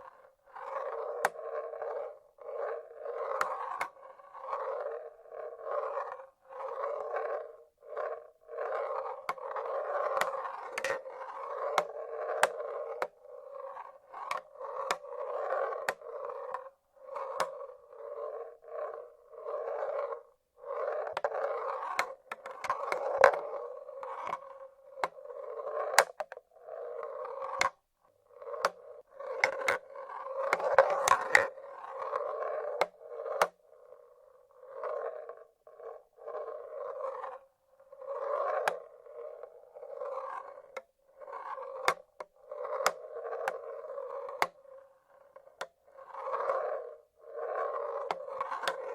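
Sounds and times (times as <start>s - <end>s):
marbles rolling on wooden tracks: 0.1s - 48.9s.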